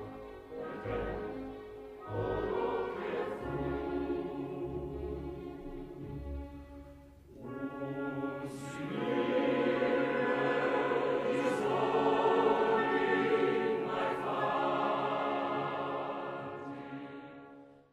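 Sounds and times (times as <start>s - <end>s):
choir singing sustained chords: 0.0s - 17.9s.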